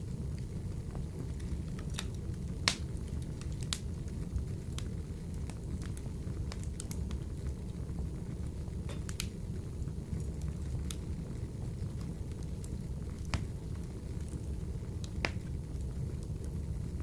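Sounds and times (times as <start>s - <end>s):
fire crackles and pops: 0.0s - 17.0s
low rumble of flame: 0.0s - 17.0s.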